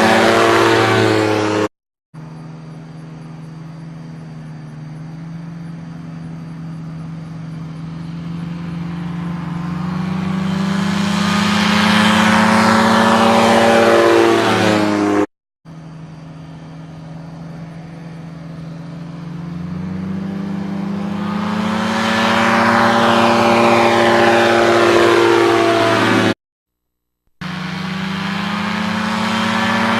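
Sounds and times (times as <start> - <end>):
ultralight aircraft engine passing: 0.0 - 26.4, 27.4 - 29.9.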